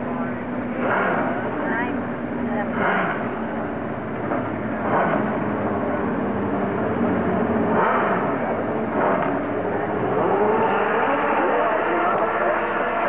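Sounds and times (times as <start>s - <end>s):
drag racing motorcycle engine: 0.0s - 13.0s.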